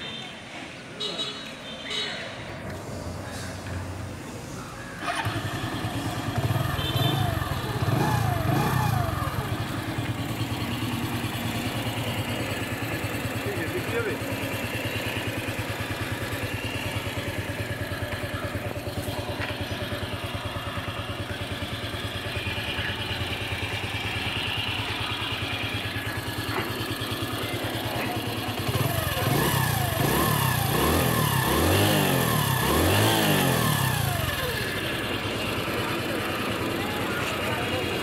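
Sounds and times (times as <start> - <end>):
motorcycle engine idling: 2.3 - 38.0
motorcycle throttle blips: 5.0 - 37.7.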